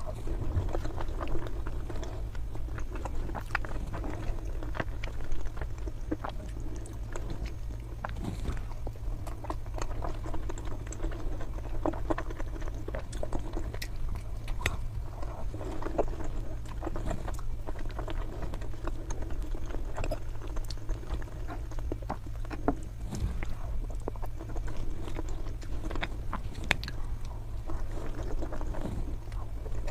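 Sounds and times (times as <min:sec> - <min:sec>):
close chewing with mouth clicks: 0:00.0 - 0:29.9
steady low hum: 0:00.0 - 0:29.9.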